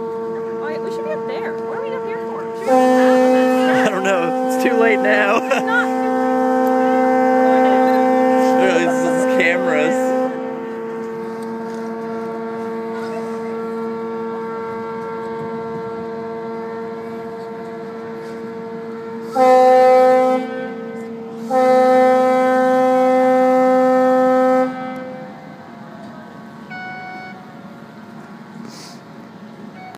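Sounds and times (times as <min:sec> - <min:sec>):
steady long horn note: 0:00.0 - 0:28.2
loud deep ship horn blasts: 0:00.0 - 0:29.9.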